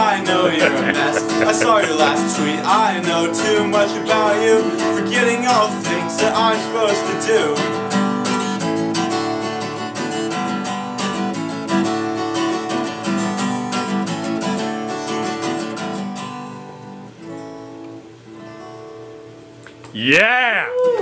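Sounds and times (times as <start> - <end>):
acoustic guitar strumming: 0.0 - 19.8.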